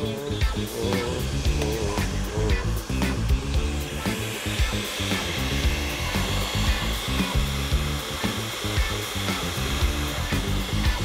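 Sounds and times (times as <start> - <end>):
background music: 0.0 - 11.0
electric food chopper running: 0.0 - 11.0.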